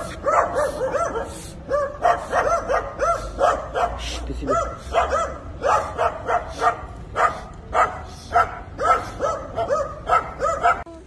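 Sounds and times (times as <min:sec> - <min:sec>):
dogs barking: 0:00.0 - 0:10.9.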